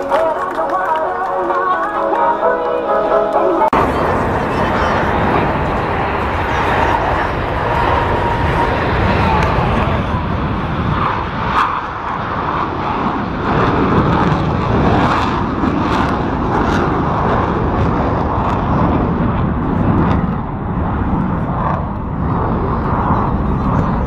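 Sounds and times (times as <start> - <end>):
jet engines flying past: 0.0 - 24.0.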